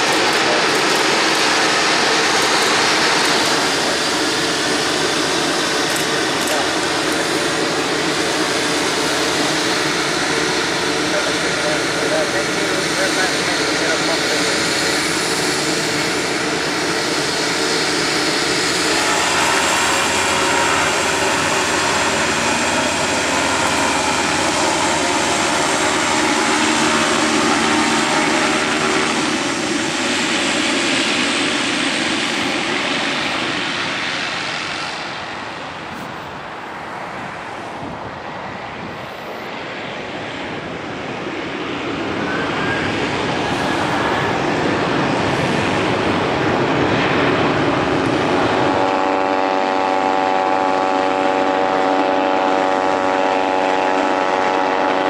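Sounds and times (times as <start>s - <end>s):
turboprop turbine whine: 0.0s - 55.0s.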